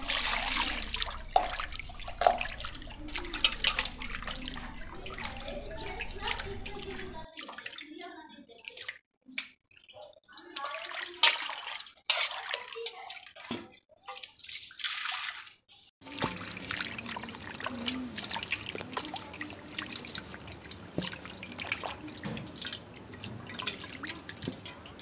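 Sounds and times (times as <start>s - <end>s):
water splashing in metal basin: 0.0s - 25.0s.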